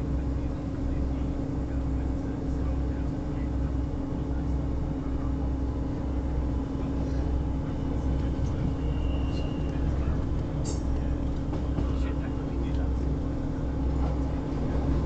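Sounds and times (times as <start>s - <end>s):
engine hum: 0.0s - 15.0s
train interior rumble: 0.0s - 15.0s.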